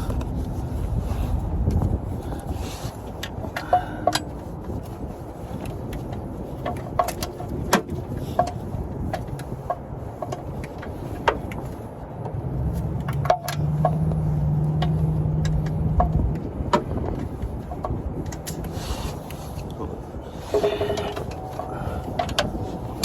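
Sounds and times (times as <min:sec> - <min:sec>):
low wind rumble: 0:00.0 - 0:23.0
vehicle engine humming: 0:00.0 - 0:23.0
hand tools clicking and tapping: 0:01.7 - 0:19.7, 0:20.4 - 0:23.0.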